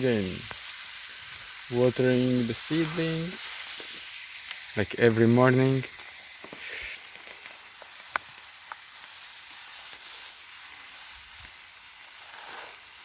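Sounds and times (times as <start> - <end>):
water spraying hiss: 0.0 - 13.0.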